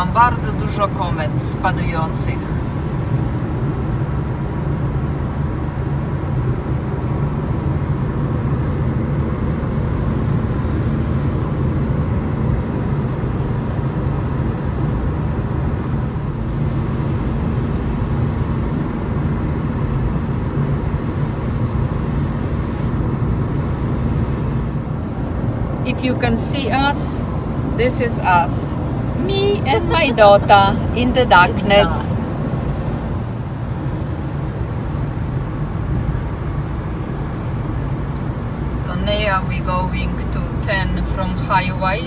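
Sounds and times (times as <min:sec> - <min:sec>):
car cabin road rumble: 0:00.0 - 0:42.0.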